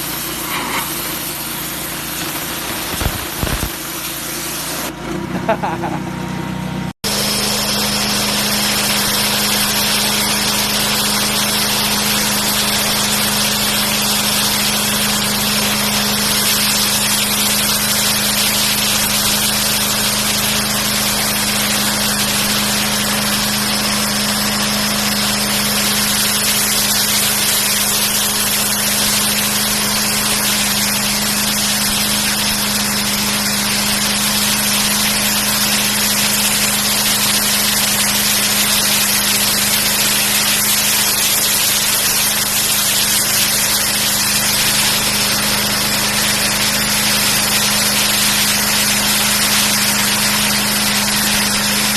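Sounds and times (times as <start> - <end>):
high-pressure water spray hiss: 0.0 - 4.9, 7.1 - 51.9
pressure washer motor hum: 0.0 - 51.9.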